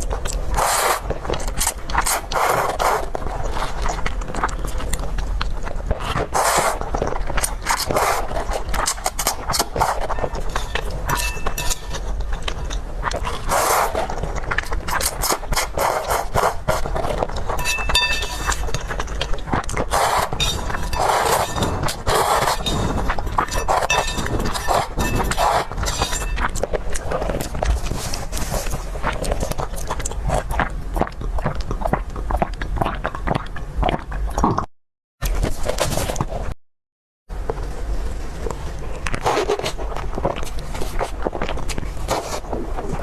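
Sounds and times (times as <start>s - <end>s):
biting and chewing: 0.0s - 36.5s, 38.4s - 43.0s.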